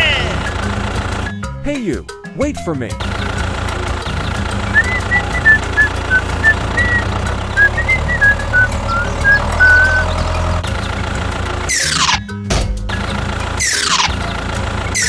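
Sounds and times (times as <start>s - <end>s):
small vehicle engine rumble: 0.0s - 1.5s, 3.0s - 15.0s.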